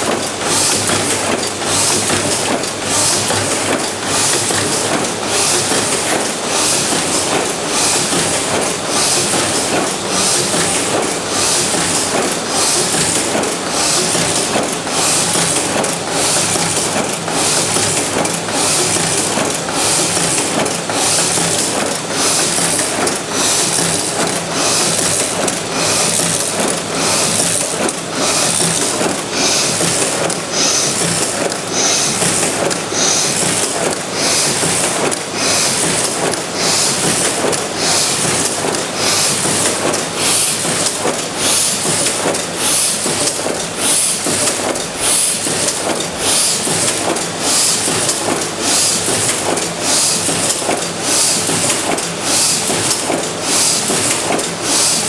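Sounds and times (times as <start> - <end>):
die-cutting press clattering: 0.1 - 55.0.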